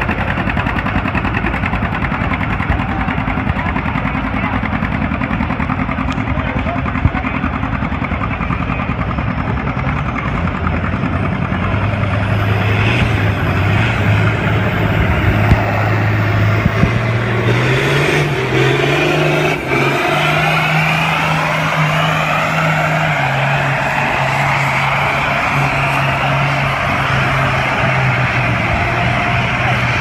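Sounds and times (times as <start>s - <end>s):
tractor engine running hard: 0.0s - 30.0s.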